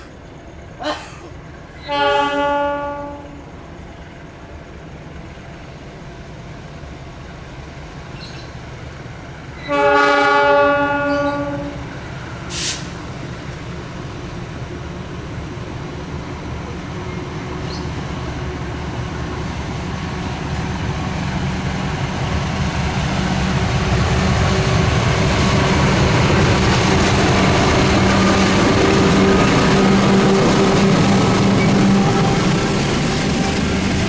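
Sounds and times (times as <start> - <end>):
diesel train engine drone: 0.0 - 34.0
train rail noise: 0.0 - 34.0.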